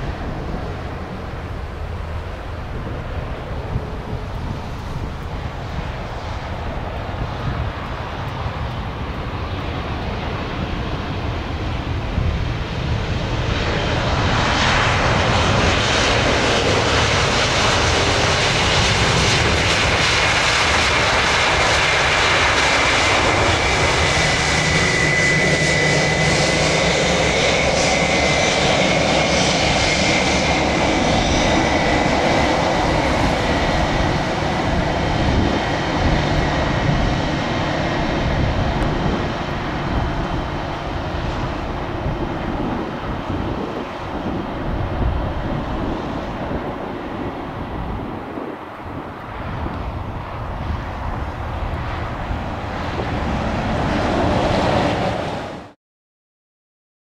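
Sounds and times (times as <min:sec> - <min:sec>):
jet engines roaring with fan whine: 0:00.0 - 0:55.8.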